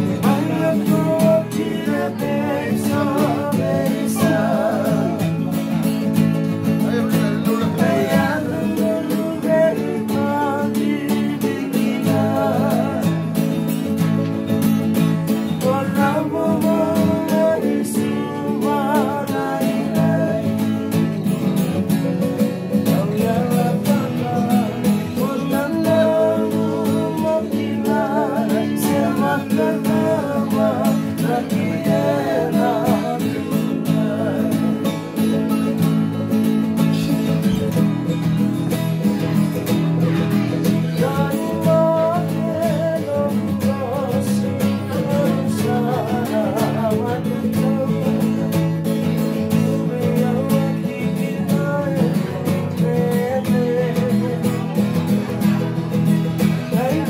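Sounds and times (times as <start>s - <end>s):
person singing: 0.0s - 14.5s, 15.1s - 38.4s, 39.2s - 55.4s
acoustic guitar strumming: 0.0s - 57.0s.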